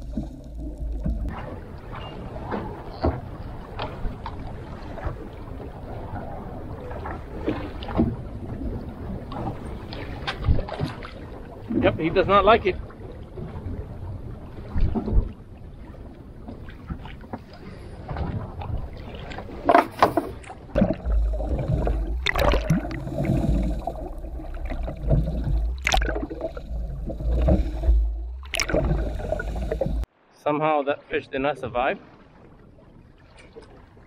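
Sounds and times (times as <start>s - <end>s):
muffled underwater rumble: 0.0s - 19.4s, 20.1s - 30.1s
water sloshing against boat hull: 0.0s - 30.3s.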